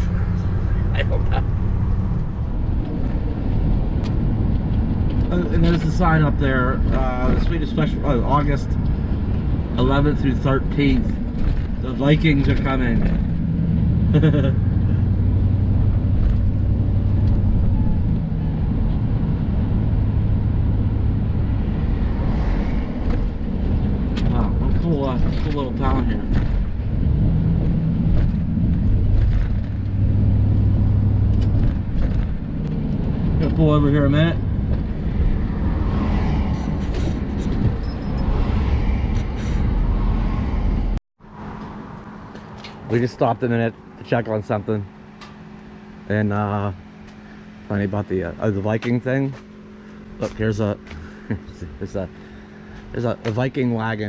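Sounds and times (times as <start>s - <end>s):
motorhome engine drone: 0.0s - 54.0s
road and tyre noise: 0.0s - 54.0s.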